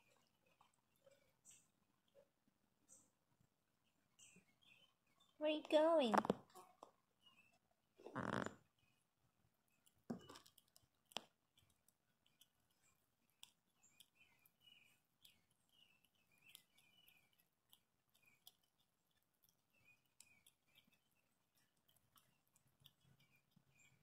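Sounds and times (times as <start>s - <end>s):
squirrel gnawing walnut: 4.1s - 24.0s.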